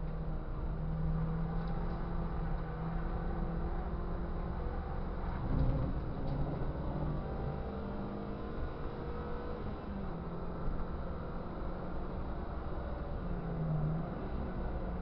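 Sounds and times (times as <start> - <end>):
race car engine: 0.0 - 15.0.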